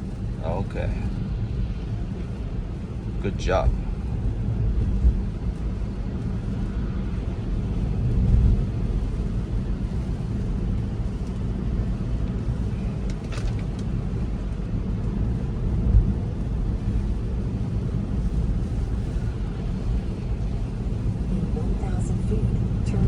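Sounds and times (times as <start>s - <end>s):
road and tyre noise: 0.0s - 23.0s.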